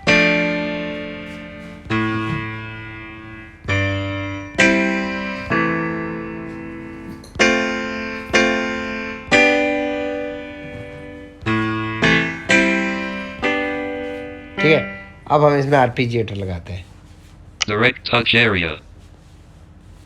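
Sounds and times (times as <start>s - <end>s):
piano block chords: 0.0s - 16.3s.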